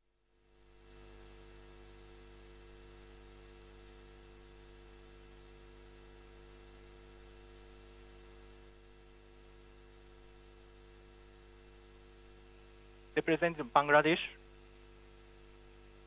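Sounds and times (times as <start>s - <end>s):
electrical hum and hiss: 1.2s - 16.0s.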